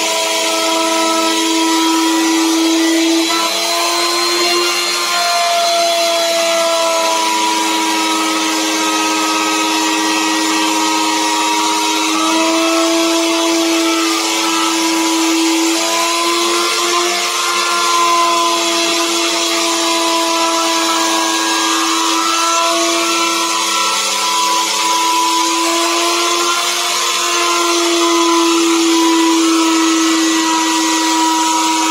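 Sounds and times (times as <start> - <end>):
electric router cutting wood: 0.0 - 31.9.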